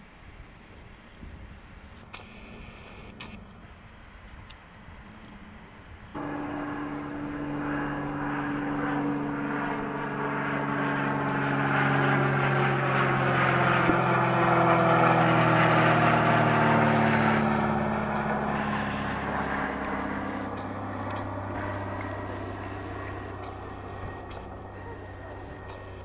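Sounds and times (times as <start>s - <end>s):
propeller aircraft engine droning: 0.0s - 26.0s.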